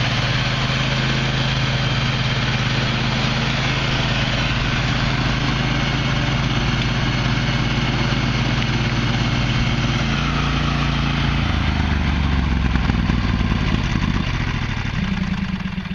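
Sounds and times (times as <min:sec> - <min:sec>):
lawn mower engine running: 0:00.0 - 0:15.9.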